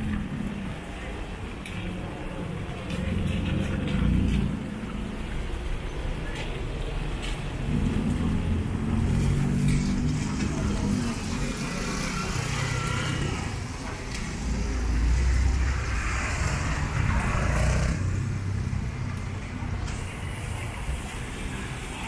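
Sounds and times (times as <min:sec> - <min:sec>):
low traffic rumble: 0:00.0 - 0:22.0
vehicles passing: 0:00.0 - 0:22.0.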